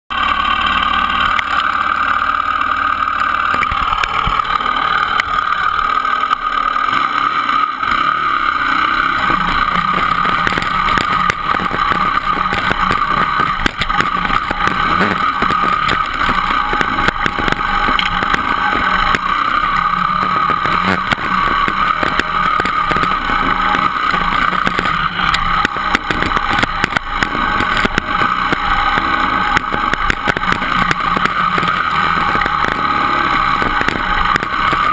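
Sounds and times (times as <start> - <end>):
dirt bike engine running: 0.1 - 34.9.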